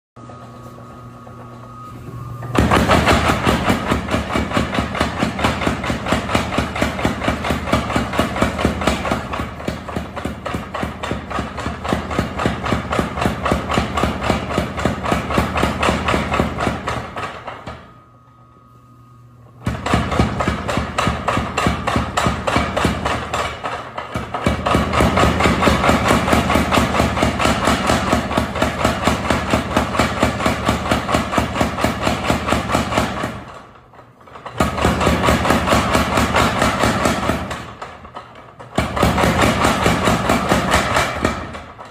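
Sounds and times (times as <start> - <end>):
faint machine hum: 0.2 - 41.9
power hammer pounding: 2.4 - 18.0, 19.6 - 41.9.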